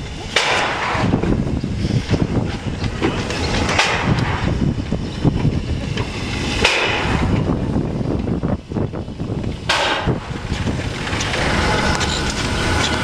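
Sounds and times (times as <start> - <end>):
bursts of steam: 0.0 - 13.0
steam locomotive wheels clanking: 0.0 - 13.0.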